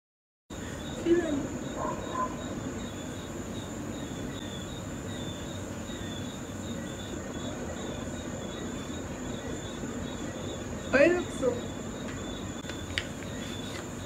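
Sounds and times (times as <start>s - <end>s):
insects chirping: 0.5s - 14.0s.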